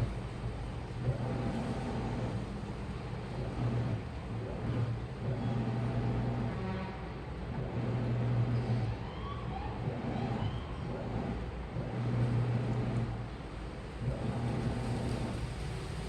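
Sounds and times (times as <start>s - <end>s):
washing machine churning: 0.0s - 16.0s.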